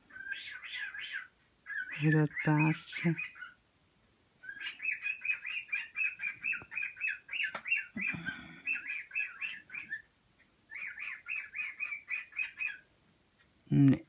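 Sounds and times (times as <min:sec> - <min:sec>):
bird chirping: 0:00.0 - 0:03.6, 0:04.4 - 0:12.9.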